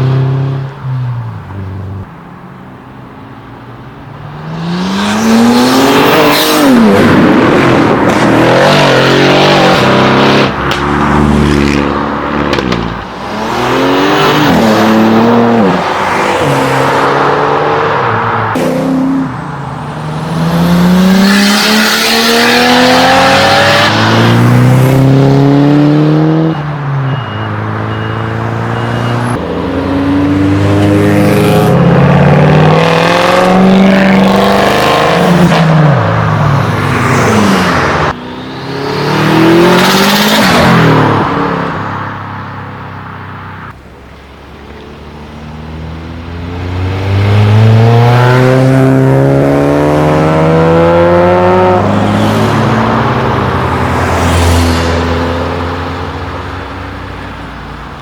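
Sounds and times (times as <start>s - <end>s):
cars accelerating and revving: 0.0s - 43.8s, 44.6s - 58.0s.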